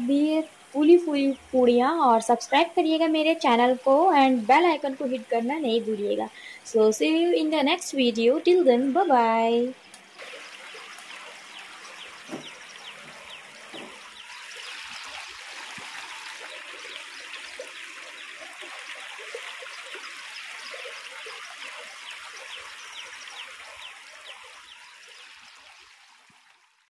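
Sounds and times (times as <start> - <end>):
oil sizzling and crackling: 0.0 - 26.8.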